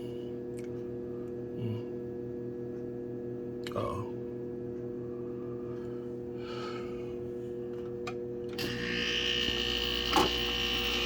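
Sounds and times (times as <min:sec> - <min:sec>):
air conditioner electrical hum: 0:00.0 - 0:11.0
mechanical hum with high whine: 0:00.0 - 0:11.0.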